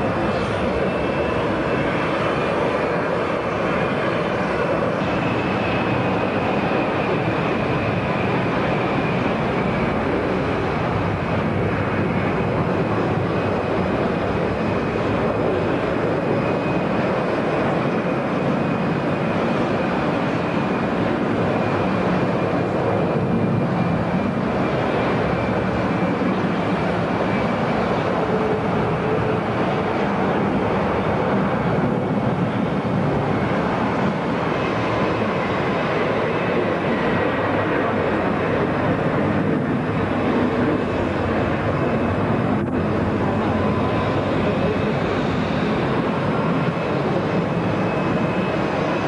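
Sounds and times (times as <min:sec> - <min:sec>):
jet engines at takeoff power: 0:00.0 - 0:49.0.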